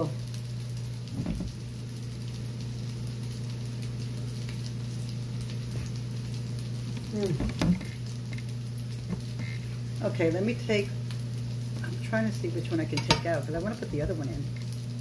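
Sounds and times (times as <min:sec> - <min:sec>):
pancakes sizzling in oil: 0:00.0 - 0:15.0.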